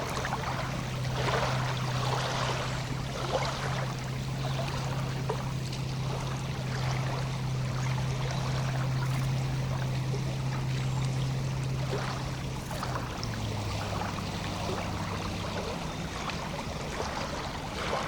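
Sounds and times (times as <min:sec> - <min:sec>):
steady low hum: 0:00.0 - 0:18.0
water lapping at shore: 0:00.0 - 0:18.0.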